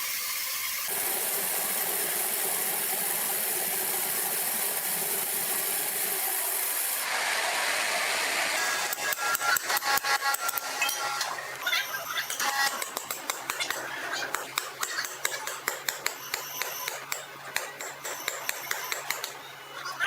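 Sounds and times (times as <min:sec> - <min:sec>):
sawmill machinery hissing: 0:00.0 - 0:17.1.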